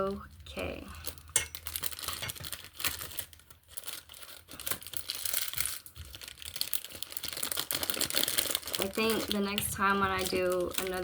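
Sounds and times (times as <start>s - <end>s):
packaging crinkling: 0.2s - 11.0s.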